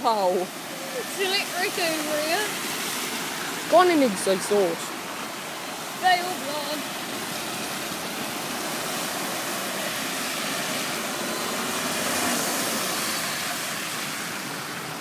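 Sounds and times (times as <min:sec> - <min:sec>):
floodwater spraying from vehicle: 0:00.0 - 0:15.0.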